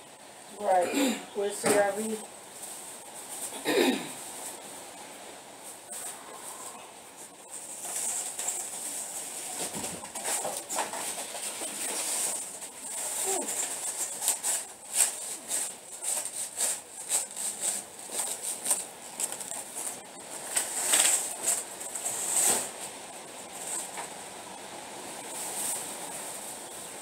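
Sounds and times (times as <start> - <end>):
plastic bags rustling: 1.4 - 27.0.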